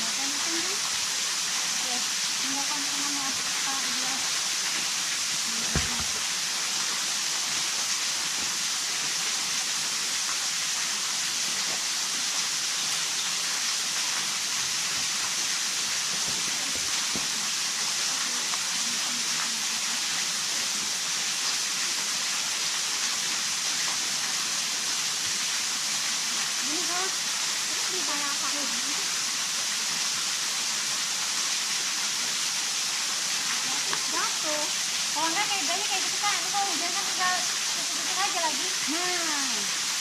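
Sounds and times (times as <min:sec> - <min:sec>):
steady hiss of water: 0:00.0 - 0:40.0.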